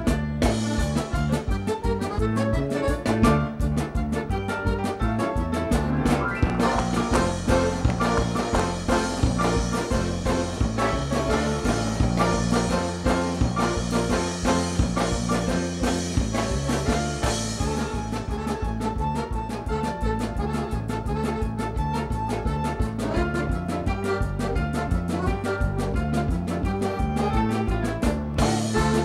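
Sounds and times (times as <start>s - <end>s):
lively folk dance music: 0.0s - 29.0s.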